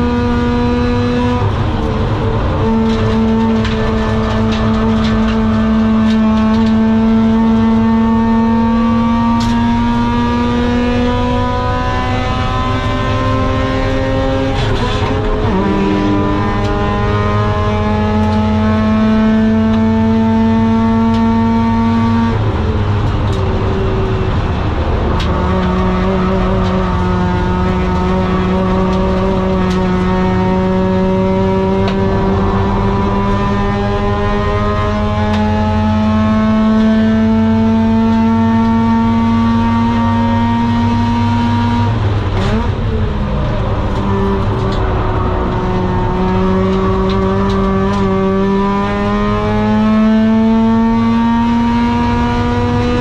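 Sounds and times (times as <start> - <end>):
rotary engine accelerating: 0.0 - 53.0.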